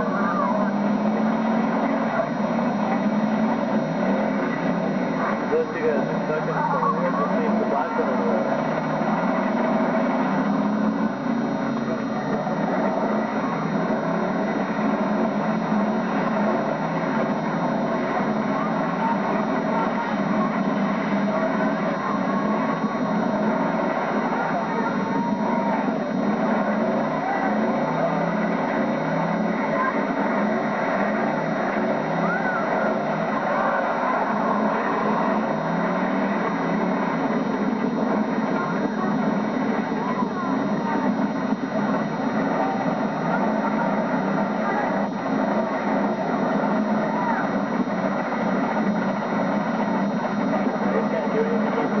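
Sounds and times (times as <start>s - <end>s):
car engines running: 0.0s - 52.0s.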